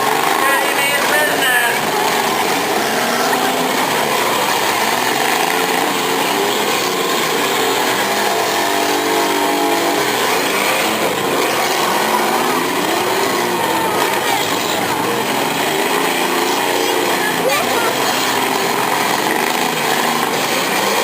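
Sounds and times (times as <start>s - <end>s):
several car engines running loud: 0.0s - 21.0s.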